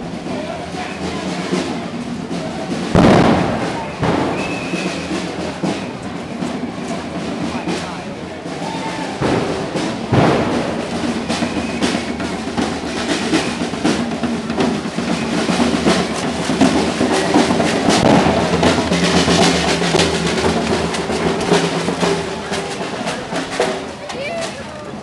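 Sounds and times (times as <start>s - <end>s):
bass drum beats: 0.0s - 6.6s, 7.2s - 25.0s
snare drum rolls: 0.0s - 25.0s.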